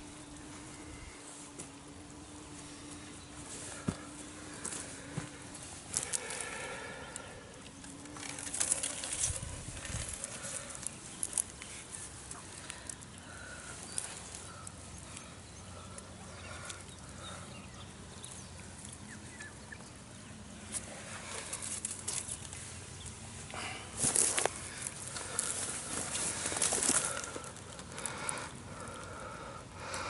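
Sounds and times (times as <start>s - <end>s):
fish handled among dry reeds: 2.4s - 17.3s, 20.3s - 30.0s.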